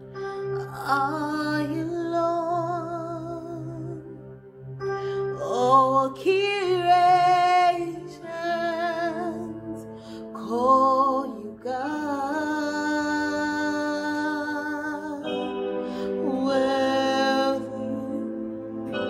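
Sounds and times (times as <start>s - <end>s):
woman singing worship song: 0.0s - 4.2s, 4.8s - 19.0s
held backing chord: 0.0s - 19.0s.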